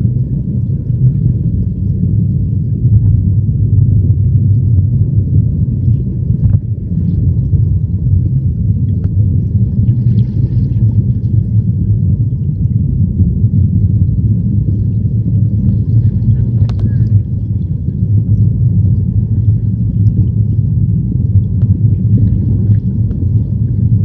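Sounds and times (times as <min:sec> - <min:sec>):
muffled underwater stream rumble: 0:00.0 - 0:24.0.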